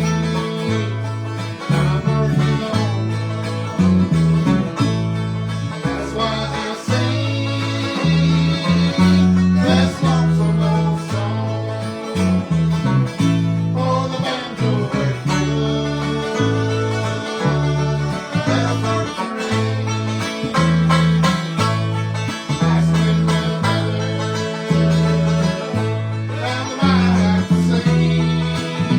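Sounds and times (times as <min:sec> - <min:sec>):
alternating bass line: 0:00.0 - 0:28.9
banjo picking: 0:00.0 - 0:28.9
guitar picking: 0:00.0 - 0:28.9.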